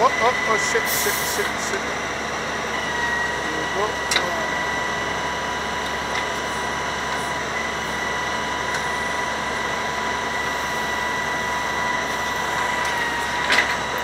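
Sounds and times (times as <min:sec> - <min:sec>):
hydraulic whine: 0:00.0 - 0:14.0
truck engine running: 0:00.0 - 0:14.0.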